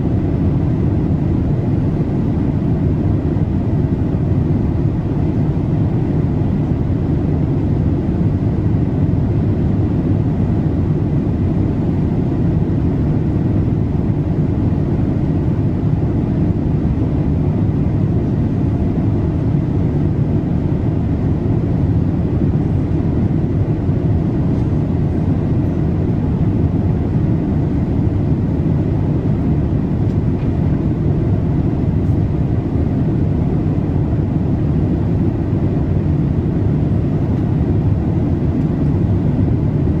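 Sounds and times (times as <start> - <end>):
airliner cabin noise: 0.0 - 40.0.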